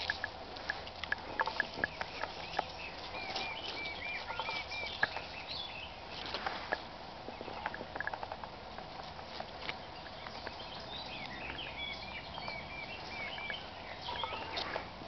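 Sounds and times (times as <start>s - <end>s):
leaves rustling and clicking: 0.0s - 15.0s
woodland birds singing: 0.0s - 15.0s.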